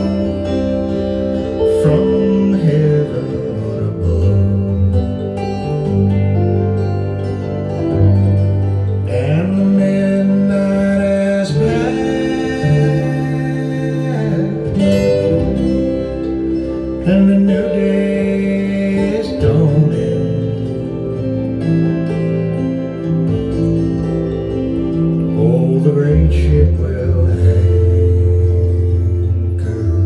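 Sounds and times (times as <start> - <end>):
slow music over loudspeakers: 0.0 - 30.0.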